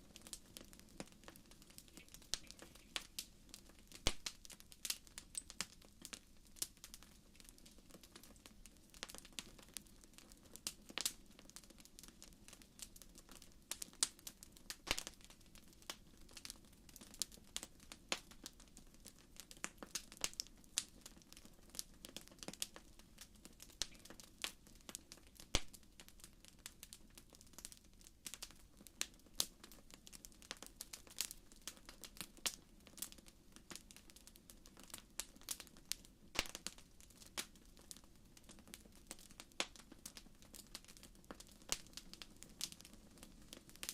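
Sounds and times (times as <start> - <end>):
low hiss of burning: 0.0 - 43.9
wood fire crackling: 0.0 - 43.9.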